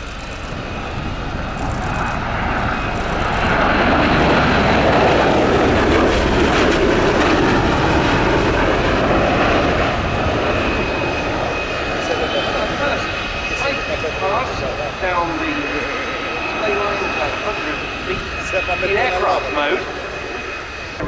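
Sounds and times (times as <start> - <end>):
tiltrotor aircraft in flight: 0.0 - 21.0.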